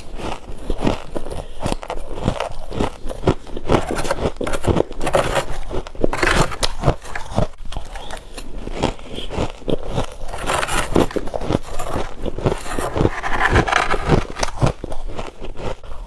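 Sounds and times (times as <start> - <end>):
crunching frost being chewed: 0.0 - 16.0.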